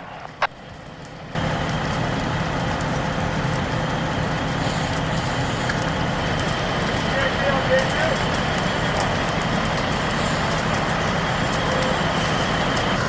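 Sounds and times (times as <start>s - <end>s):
fire engine pumps droning: 0.0s - 13.0s.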